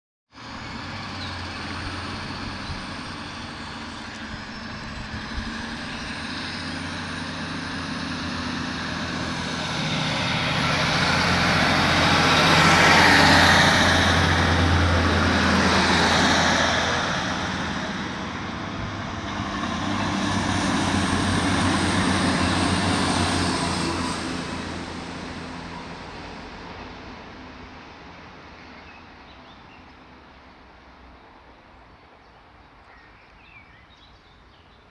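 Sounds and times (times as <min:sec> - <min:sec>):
diesel train engine: 0:00.3 - 0:32.8
another train approaching: 0:00.3 - 0:34.7.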